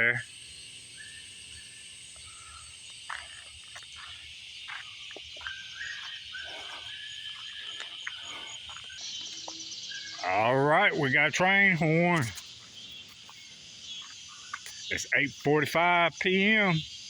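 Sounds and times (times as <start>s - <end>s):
crickets and insects droning: 0.0s - 17.0s
frogs calling: 0.0s - 17.0s.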